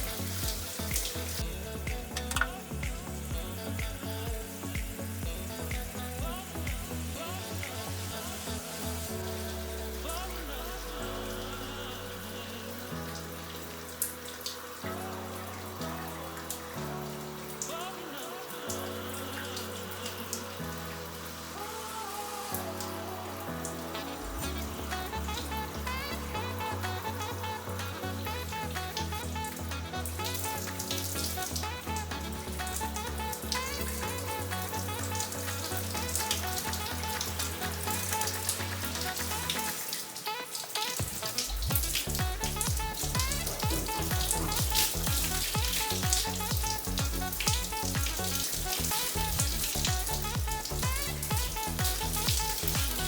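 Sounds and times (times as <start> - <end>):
background music with bass and beat: 0.0 - 13.4, 22.6 - 39.8, 41.0 - 53.0.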